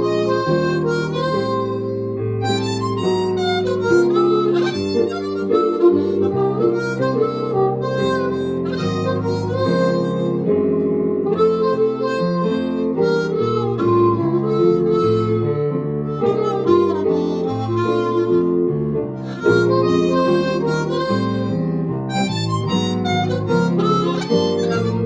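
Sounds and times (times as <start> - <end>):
harmonica playing blues melody: 0.0 - 25.0.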